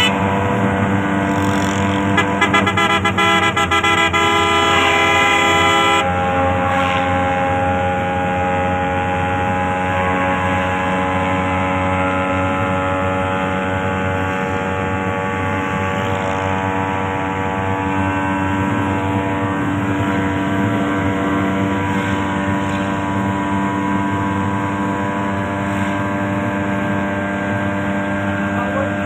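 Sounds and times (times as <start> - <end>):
road noise: 0.0 - 29.0
van engine droning: 0.0 - 29.0.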